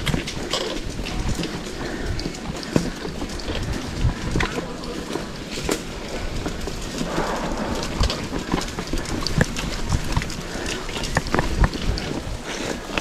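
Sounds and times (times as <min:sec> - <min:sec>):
bike rattling over ground: 0:00.0 - 0:13.0.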